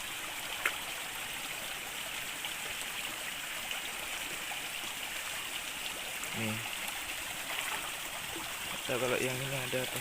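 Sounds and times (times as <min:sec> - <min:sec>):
river flowing: 0:00.0 - 0:10.0.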